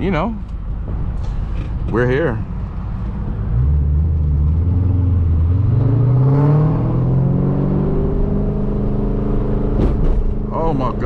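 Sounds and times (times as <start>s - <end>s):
car engine accelerating: 1.4s - 11.0s.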